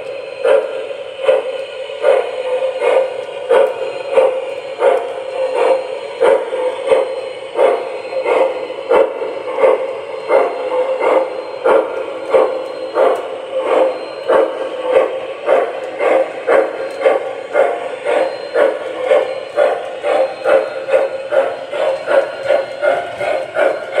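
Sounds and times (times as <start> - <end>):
model steam locomotive chuffing: 0.0 - 24.0.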